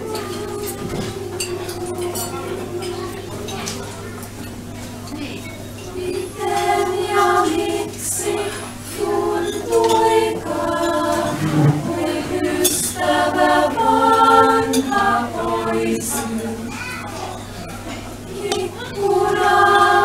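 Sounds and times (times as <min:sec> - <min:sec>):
choir singing a cappella: 0:00.0 - 0:03.7, 0:05.9 - 0:16.8, 0:17.5 - 0:20.0.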